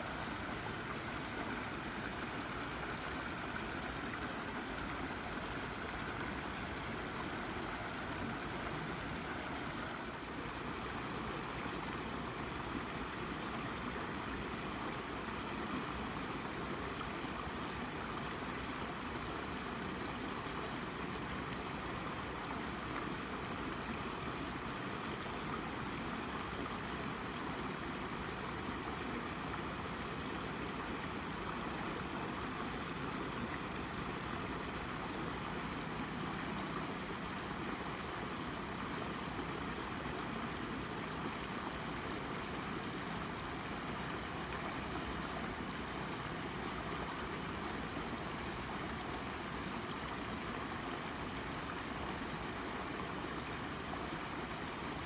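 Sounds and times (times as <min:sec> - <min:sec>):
brook babbling over rock: 0:00.0 - 0:55.0.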